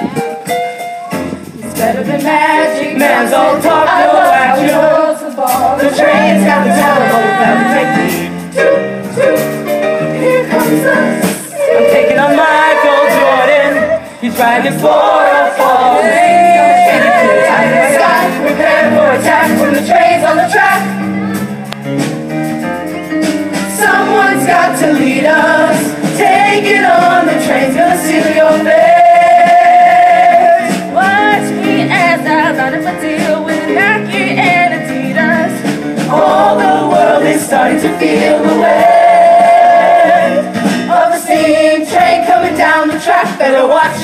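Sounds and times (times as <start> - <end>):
instrumental accompaniment: 0.0 - 44.0
chorus singing: 1.5 - 21.5, 23.6 - 44.0.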